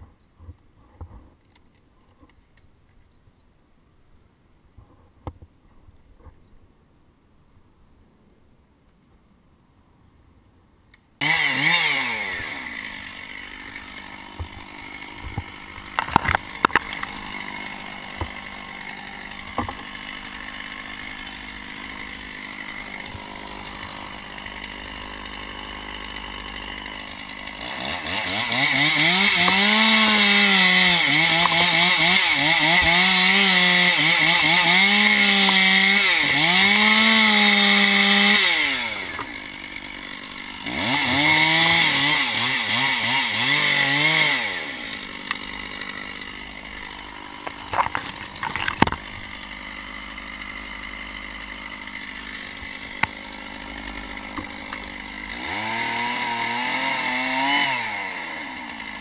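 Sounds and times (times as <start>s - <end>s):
chainsaw cutting wood: 11.2s - 59.0s.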